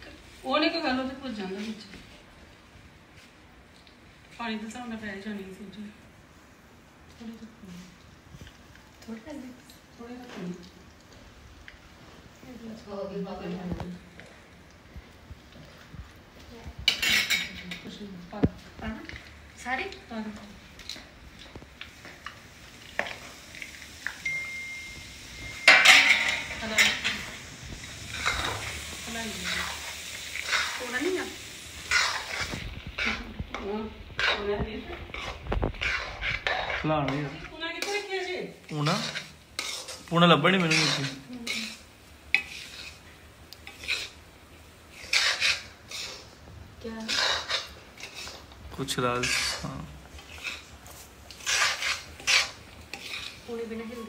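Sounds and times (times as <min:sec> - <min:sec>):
flour sizzling in pan: 0:00.0 - 0:54.0.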